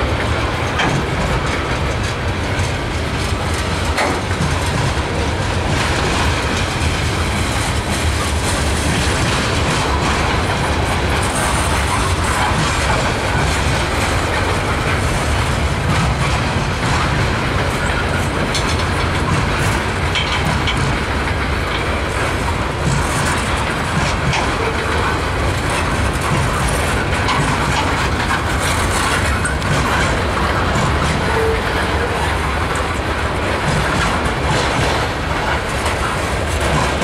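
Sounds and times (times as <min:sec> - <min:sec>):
train wheels rumbling on rails: 0:00.0 - 0:37.0
clicks over rail joints: 0:00.1 - 0:37.0.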